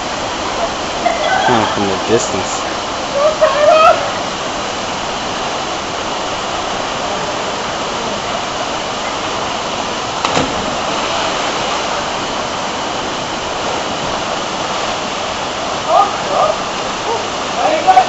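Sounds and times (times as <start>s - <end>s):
waterfall rushing into pool: 0.0s - 18.0s.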